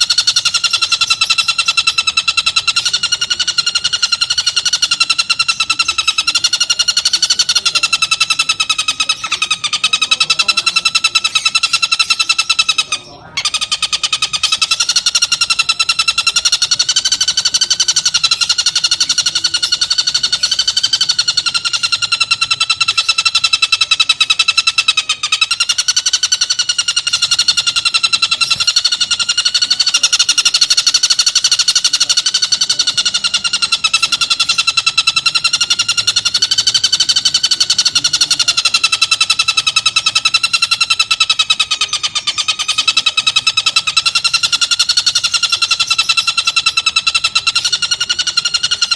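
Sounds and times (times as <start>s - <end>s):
kingfisher rattling call: 0.0s - 48.9s.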